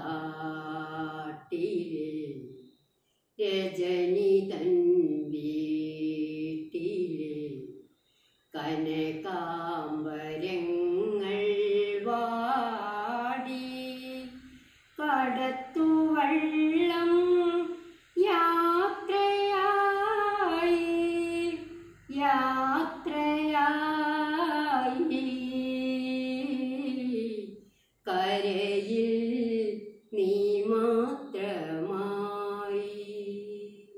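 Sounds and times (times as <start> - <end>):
woman singing unaccompanied: 0.0 - 2.7, 3.4 - 7.9, 8.5 - 33.9.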